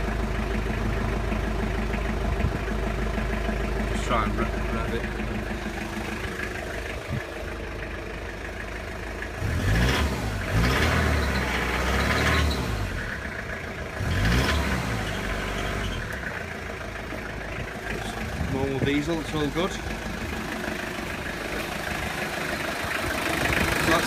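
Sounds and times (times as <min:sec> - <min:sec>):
diesel engine idling and revving: 0:00.0 - 0:24.0.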